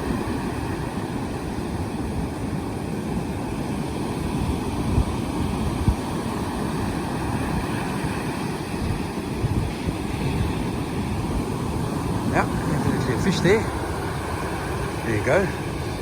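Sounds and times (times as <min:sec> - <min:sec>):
surf breaking on beach: 0:00.0 - 0:16.0
wind on microphone: 0:00.0 - 0:16.0.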